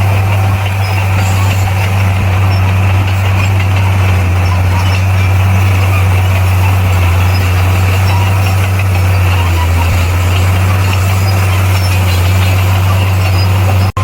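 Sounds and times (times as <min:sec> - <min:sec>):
bulldozer diesel engine droning: 0:00.0 - 0:14.0.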